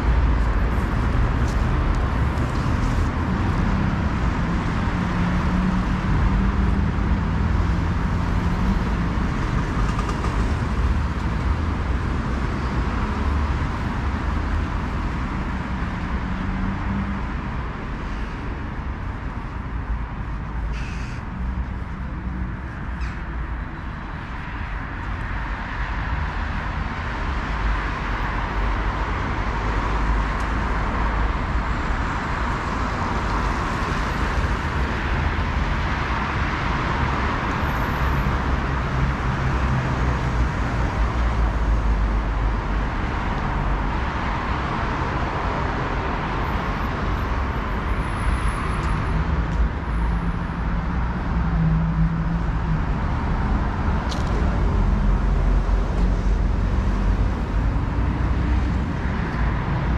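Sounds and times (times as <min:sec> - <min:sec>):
passing car traffic: 0:00.0 - 0:59.9.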